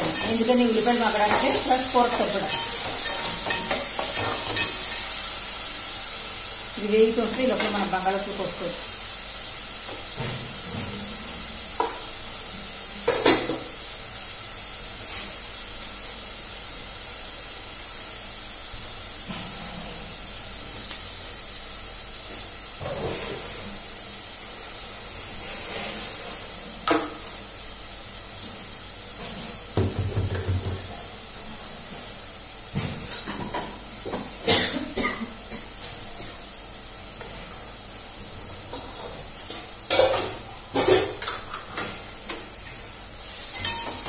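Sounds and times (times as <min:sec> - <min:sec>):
onions sizzling in oil: 0:00.0 - 0:44.0.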